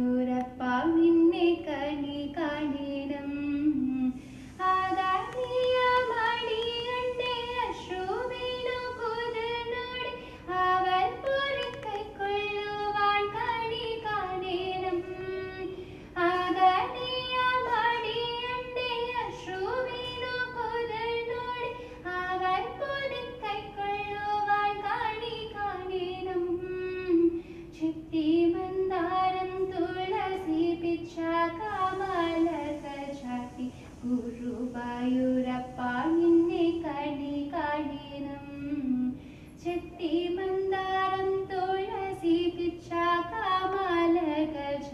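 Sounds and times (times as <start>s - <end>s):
woman singing: 0.0s - 44.9s.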